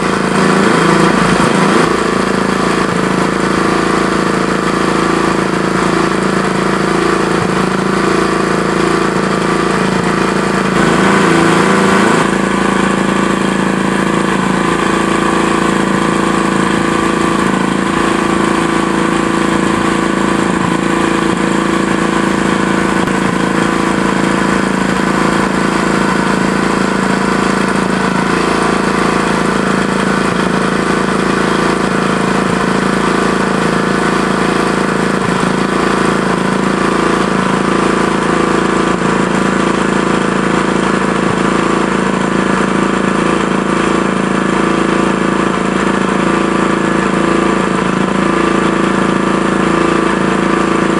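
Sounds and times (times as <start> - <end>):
small petrol engine running: 0.0 - 50.9.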